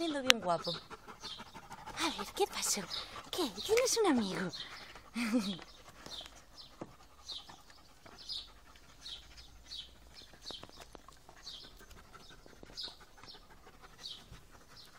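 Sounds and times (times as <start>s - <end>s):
small bird chirping: 0.0s - 14.9s.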